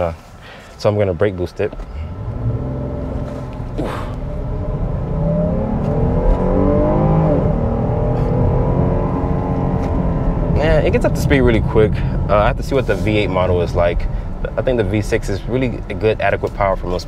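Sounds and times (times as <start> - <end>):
car engine accelerating: 1.7 - 17.0.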